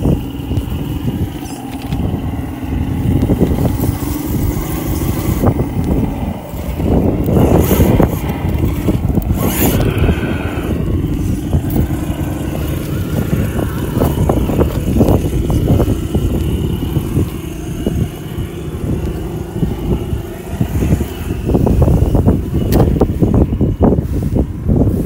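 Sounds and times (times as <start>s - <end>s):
electric motor and gearbox whine: 0.0s - 25.0s.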